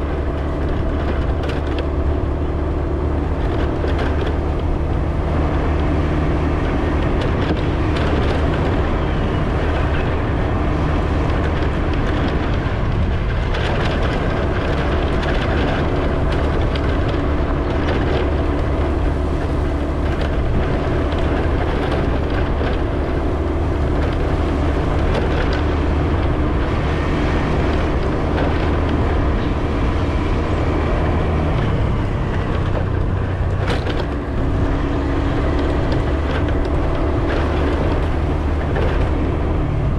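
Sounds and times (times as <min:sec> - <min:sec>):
tyre and road noise: 0:00.0 - 0:39.9
vehicle engine drone: 0:00.0 - 0:39.9
knocks from road bumps: 0:06.6 - 0:39.9.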